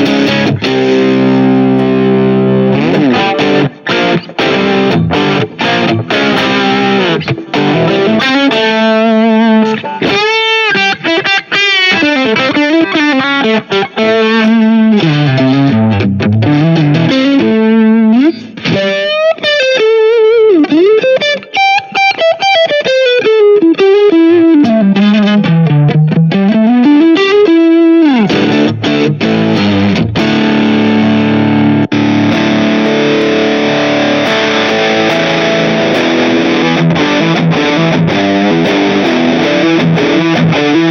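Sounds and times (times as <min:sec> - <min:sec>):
distorted electric guitar: 0:00.0 - 0:40.9.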